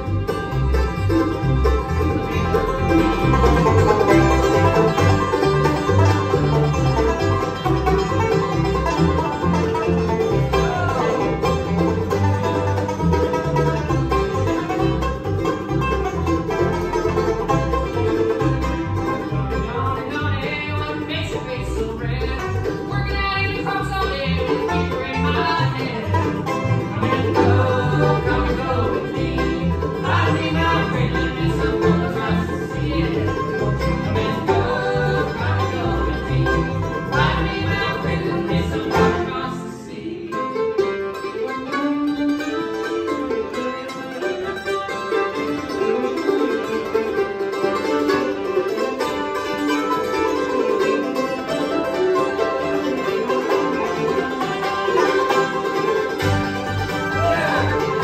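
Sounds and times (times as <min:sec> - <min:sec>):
banjo picking fast rolls: 0:00.0 - 0:58.0
bluegrass band playing: 0:00.0 - 0:58.0.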